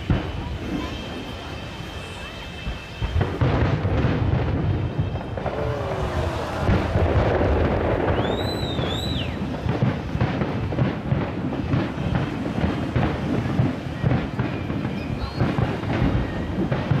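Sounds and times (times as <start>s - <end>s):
firework whistle: 0.0s - 17.0s
firework shells bursting: 3.1s - 17.0s.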